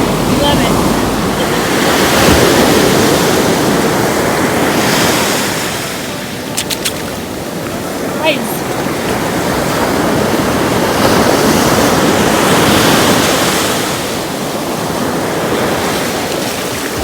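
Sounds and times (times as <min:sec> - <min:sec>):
ocean wave breaking: 0:00.0 - 0:17.0.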